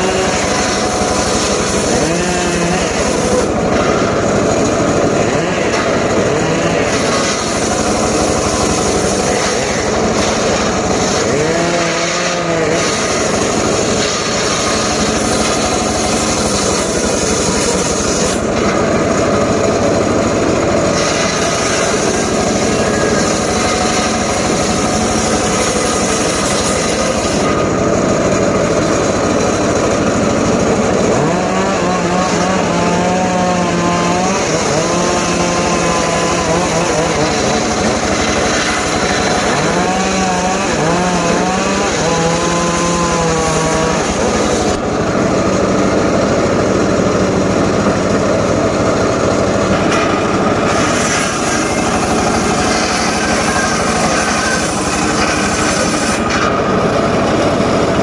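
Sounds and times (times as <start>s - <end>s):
engine-powered wood saw cutting: 0.0s - 58.0s.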